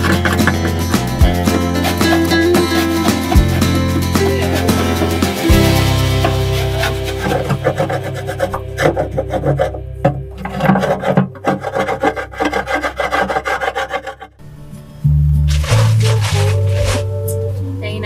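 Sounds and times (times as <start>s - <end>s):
guitar background music: 0.0s - 11.4s, 14.4s - 18.0s
hand tool scraping steel hull: 0.0s - 14.4s, 15.5s - 17.2s.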